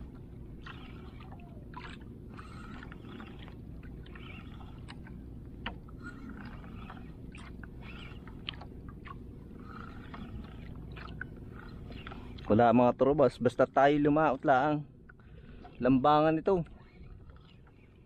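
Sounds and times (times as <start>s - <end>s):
steady low rumble: 0.0s - 18.0s
water splashing against boat hull: 0.0s - 18.0s.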